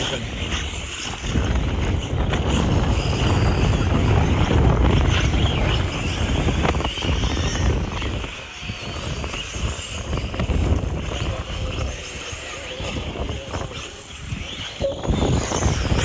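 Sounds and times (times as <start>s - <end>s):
radio-controlled buggy motors revving: 0.0s - 16.0s
wind buffeting the microphone: 0.0s - 16.0s.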